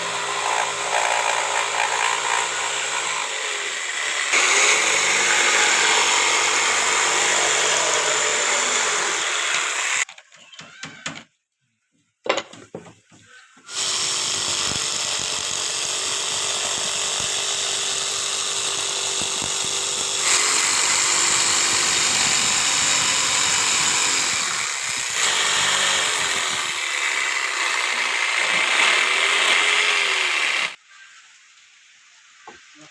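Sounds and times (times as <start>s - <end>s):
power tool motor running: 0.0s - 10.0s, 13.7s - 30.8s.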